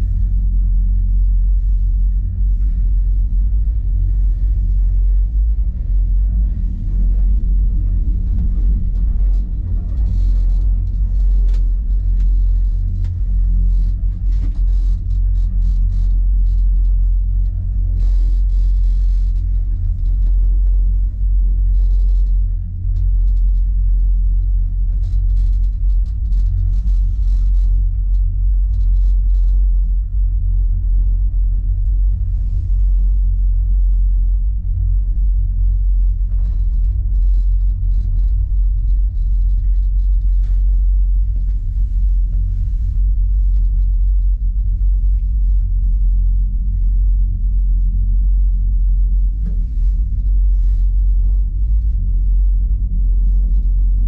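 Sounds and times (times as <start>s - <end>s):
faint crackles: 0.0s - 48.1s, 48.7s - 54.0s
cable car rumble: 0.0s - 54.0s.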